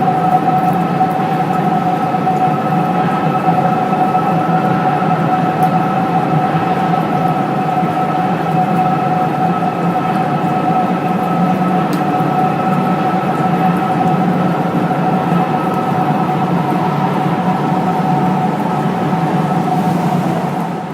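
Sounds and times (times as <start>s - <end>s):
machine running with whine: 0.0s - 20.9s.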